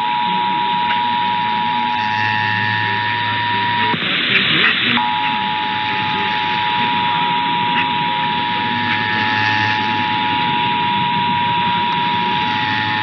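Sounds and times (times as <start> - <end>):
radio static hiss: 0.0 - 13.0
two-tone alert signal: 0.0 - 13.0.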